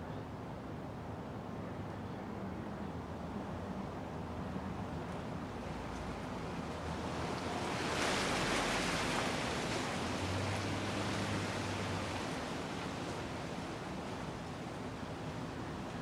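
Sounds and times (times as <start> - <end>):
ceiling fan air rush: 0.0 - 16.0.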